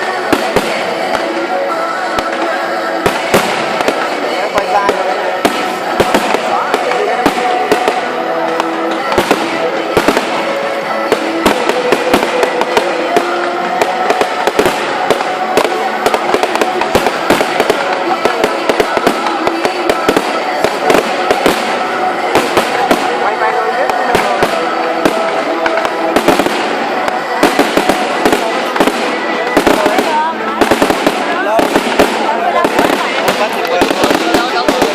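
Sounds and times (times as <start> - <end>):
fireworks bangs: 0.0 - 34.9
fireworks crackle: 0.0 - 34.9.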